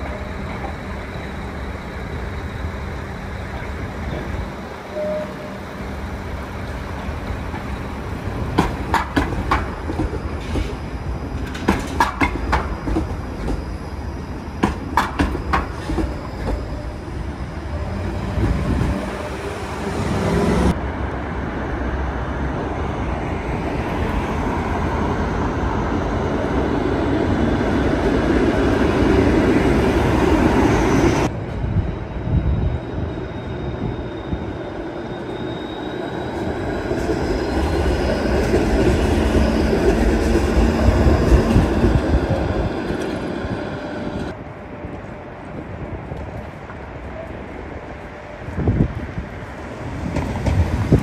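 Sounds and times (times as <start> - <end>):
streetcar wheels rumbling on rails: 0.0 - 51.0.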